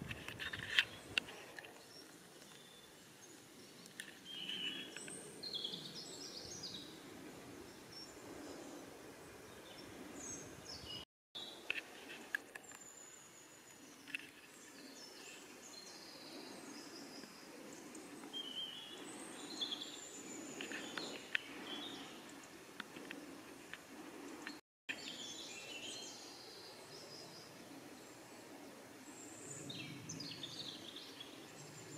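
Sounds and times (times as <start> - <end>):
songbirds chirping and trilling: 0.0 - 31.9.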